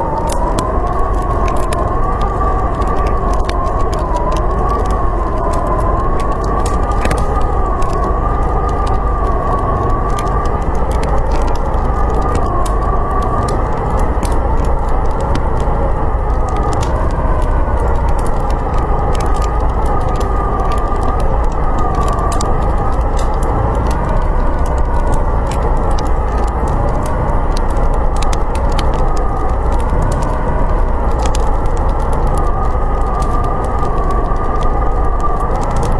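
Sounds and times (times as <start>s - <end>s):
blizzard wind howling: 0.0s - 35.9s
wood fire crackling: 0.0s - 35.9s.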